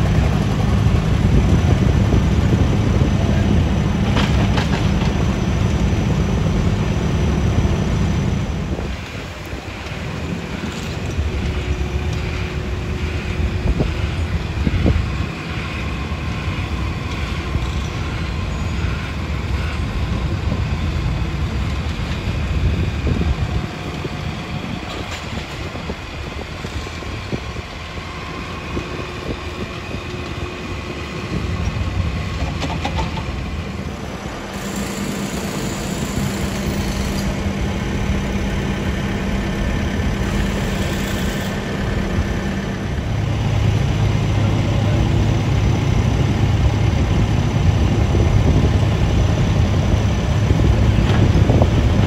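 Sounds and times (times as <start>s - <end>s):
construction machinery diesel engines: 0.0s - 52.0s
deep engine drone: 0.0s - 52.0s.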